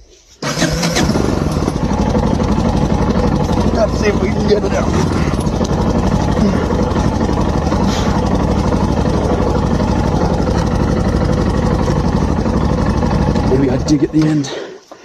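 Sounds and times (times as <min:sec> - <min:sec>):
motorcycle engine running steadily: 0:00.9 - 0:14.8.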